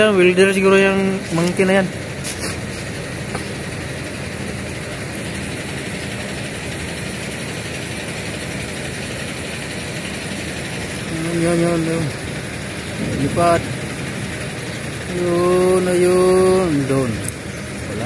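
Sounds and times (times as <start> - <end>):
engine idling drone: 0.0 - 18.0.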